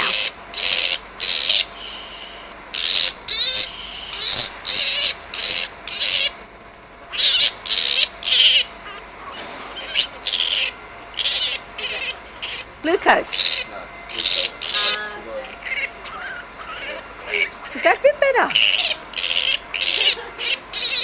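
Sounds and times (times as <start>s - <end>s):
flying fox screaming: 0.0s - 6.4s, 7.1s - 17.9s, 18.5s - 21.0s.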